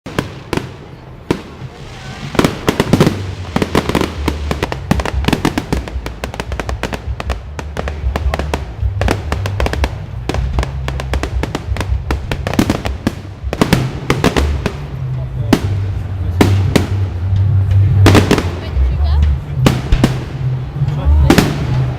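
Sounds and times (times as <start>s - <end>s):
fireworks bangs and crackles: 0.0s - 21.9s
music with low bass line: 1.7s - 21.9s.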